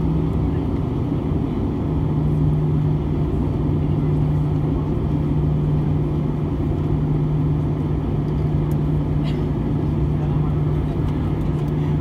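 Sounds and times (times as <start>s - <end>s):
airplane cabin engine drone: 0.0s - 12.0s
constant low hum: 0.0s - 12.0s.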